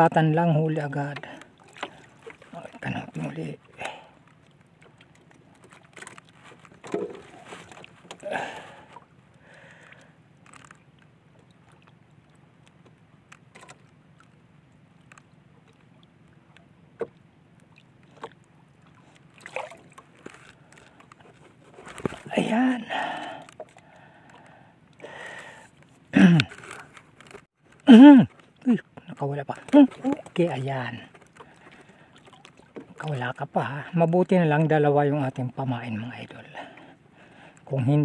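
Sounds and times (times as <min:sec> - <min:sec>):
water lapping against boat hull: 0:00.0 - 0:38.0
water splashes: 0:00.0 - 0:38.0.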